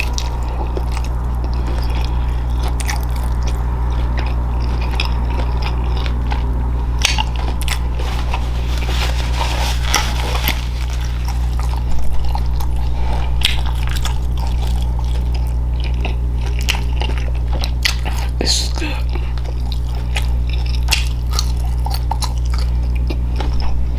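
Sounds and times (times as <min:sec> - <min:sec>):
steady low hum: 0:00.0 - 0:23.9
wet chewing and crunchy bites: 0:00.0 - 0:23.9.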